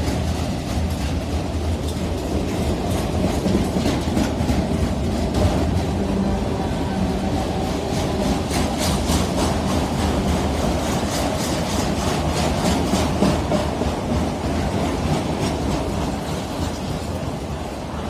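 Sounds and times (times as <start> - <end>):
wheels clacking over track joints: 0.0 - 6.4, 7.1 - 17.4
steel wheels rumbling on rail: 0.0 - 18.0.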